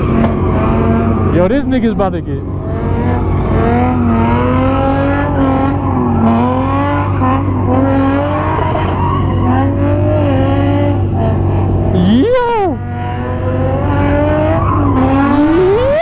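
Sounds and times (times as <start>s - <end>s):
car engine revving: 0.0s - 16.0s
tires squealing: 0.0s - 16.0s.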